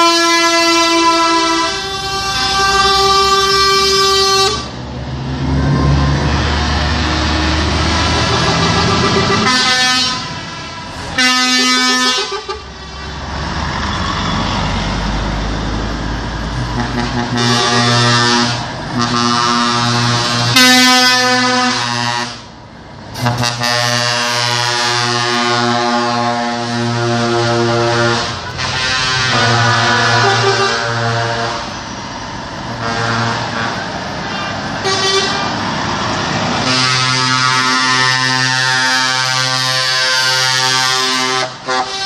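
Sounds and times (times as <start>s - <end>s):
truck air horn blasts: 0.0s - 4.8s, 5.7s - 13.3s, 16.6s - 22.6s, 23.2s - 31.8s, 32.7s - 35.6s, 36.6s - 42.0s
truck engine rumble: 0.0s - 42.0s.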